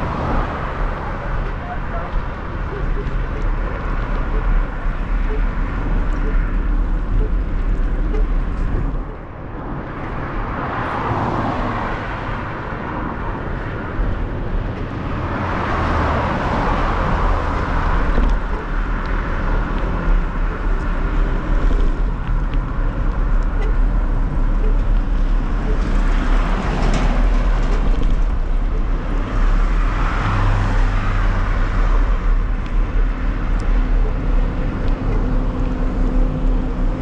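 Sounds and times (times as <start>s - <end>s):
road noise: 0.0s - 37.0s
wind rumble on microphone: 0.0s - 37.0s.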